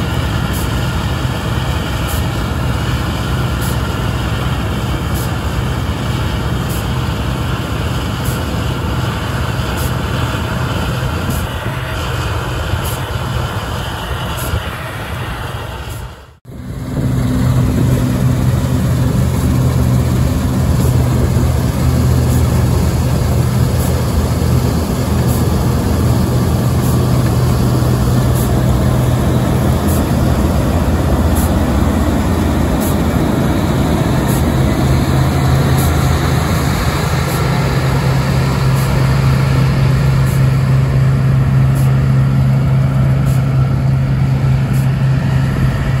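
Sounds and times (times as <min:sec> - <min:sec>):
combine harvester engine drone: 0:00.0 - 0:46.0.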